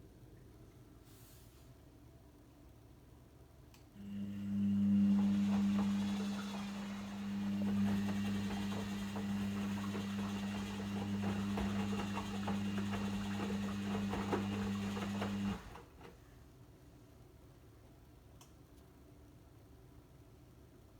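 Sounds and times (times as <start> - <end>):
washing machine electrical hum: 1.8 - 20.9.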